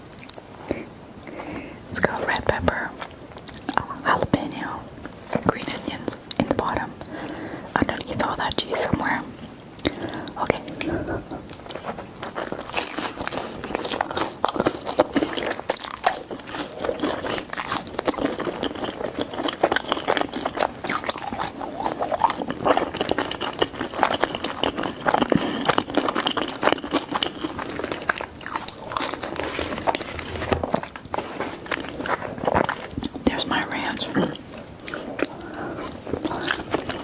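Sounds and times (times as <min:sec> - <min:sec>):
person chewing pizza: 0:00.0 - 0:37.0.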